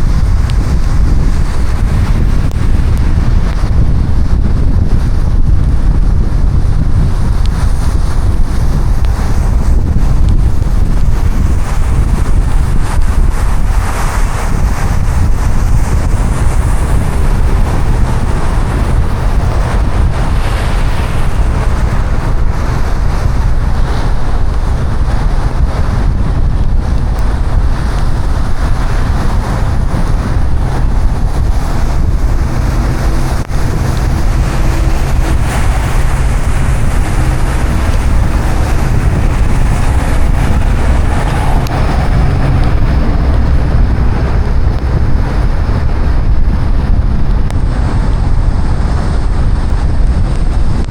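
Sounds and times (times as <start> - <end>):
deep car rumble: 0.0 - 50.9
heavy rain and tyre spray: 0.0 - 50.9.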